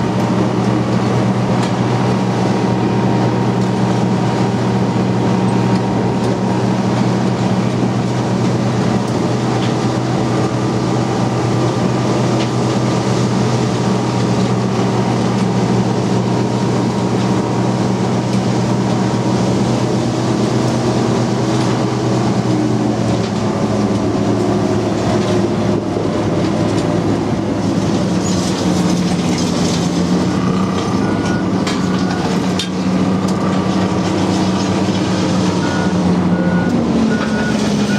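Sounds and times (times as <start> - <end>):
vehicle engine droning: 0.0 - 37.9.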